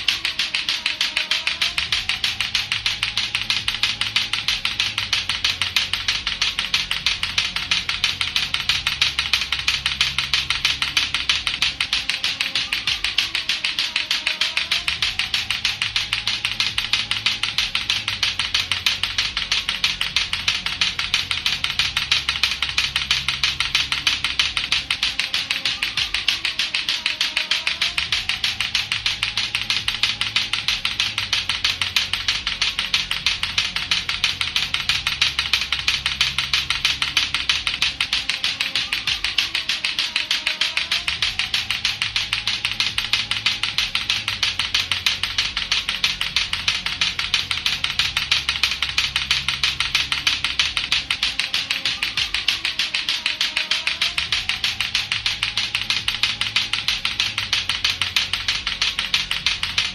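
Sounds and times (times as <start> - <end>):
clacker balls knocking together: 0.0 - 59.9
looping music track: 0.0 - 59.9.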